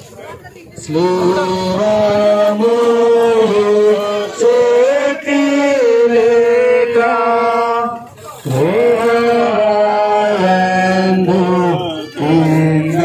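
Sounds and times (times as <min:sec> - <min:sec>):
person singing a hymn: 0:00.8 - 0:13.0.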